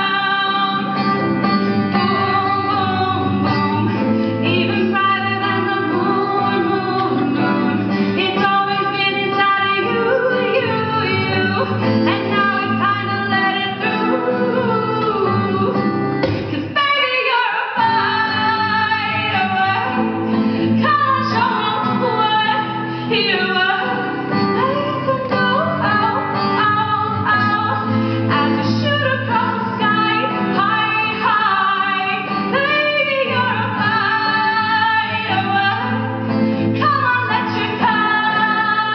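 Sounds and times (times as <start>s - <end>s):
strummed acoustic guitar: 0.0s - 16.8s, 17.8s - 38.9s
woman singing: 0.0s - 38.9s.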